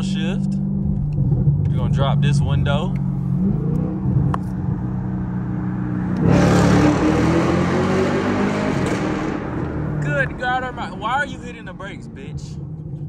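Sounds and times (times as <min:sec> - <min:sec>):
car exhaust revving and droning: 0:00.0 - 0:13.0.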